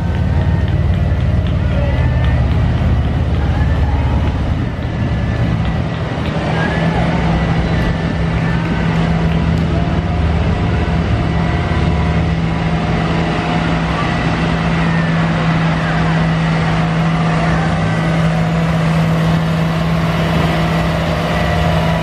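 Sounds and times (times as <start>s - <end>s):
tractors driving past: 0.0s - 22.0s.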